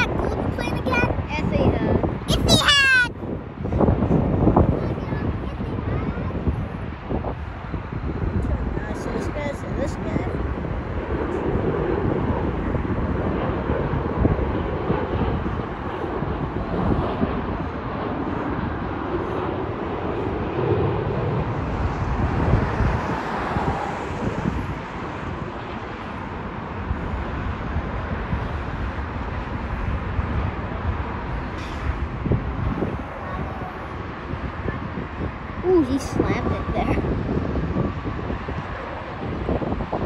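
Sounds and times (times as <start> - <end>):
jet airliner engine noise: 0.0 - 40.0
wind buffeting microphone: 0.0 - 40.0.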